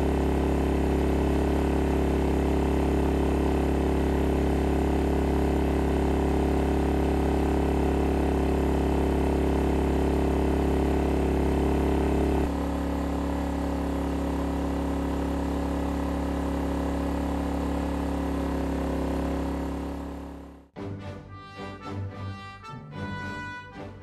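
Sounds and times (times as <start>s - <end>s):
generator engine hum: 0.0s - 20.8s.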